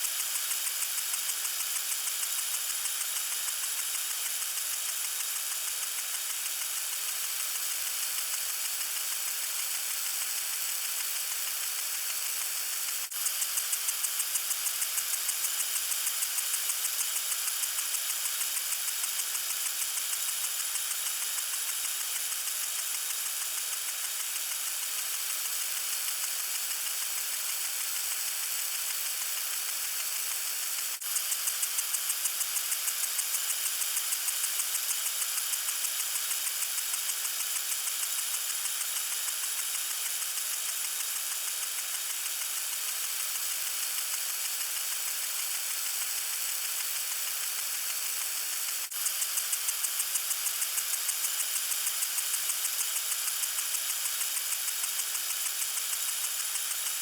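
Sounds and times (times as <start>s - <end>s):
water sprinkler hissing: 0.0s - 57.0s.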